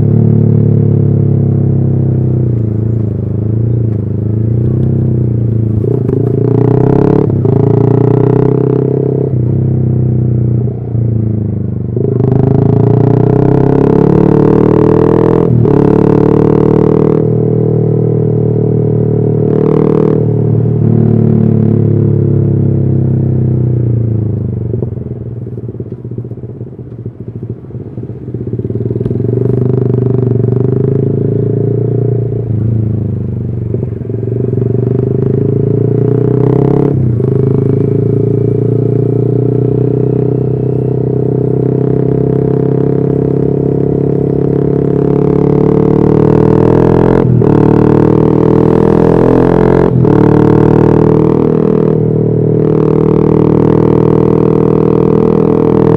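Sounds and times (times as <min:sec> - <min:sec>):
motorcycle engine: 0:00.0 - 0:55.9.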